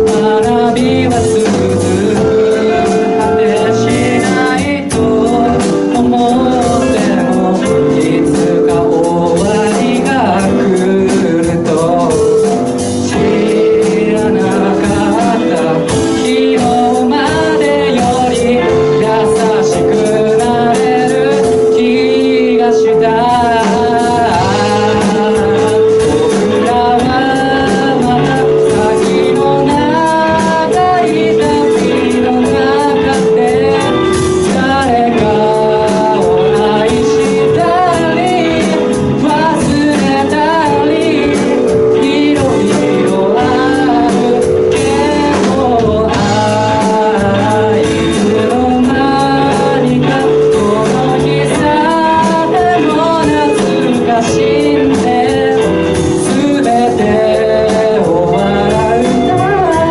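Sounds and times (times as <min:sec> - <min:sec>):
live band with keyboard: 0:00.0 - 0:59.9
person singing: 0:00.0 - 0:59.9.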